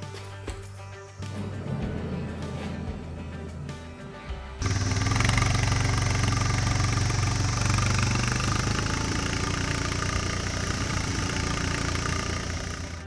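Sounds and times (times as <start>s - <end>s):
atv engine running: 1.6s - 13.0s.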